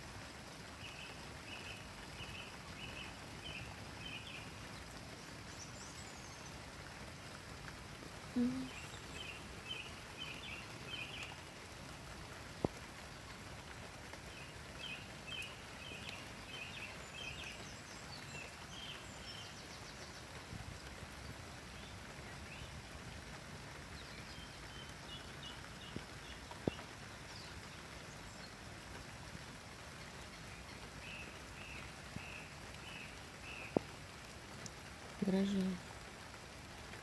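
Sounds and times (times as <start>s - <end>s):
light rain hiss: 0.0s - 37.0s
songbird chirping: 0.8s - 7.0s, 8.3s - 12.0s, 12.6s - 22.9s, 23.7s - 35.9s.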